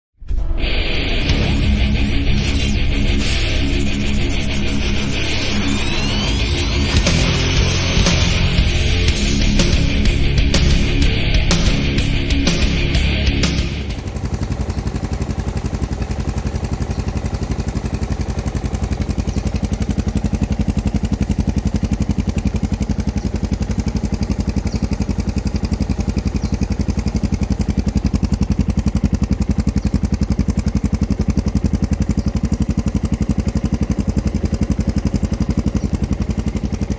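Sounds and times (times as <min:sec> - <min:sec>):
motorcycle engine idling: 0:01.3 - 0:36.9.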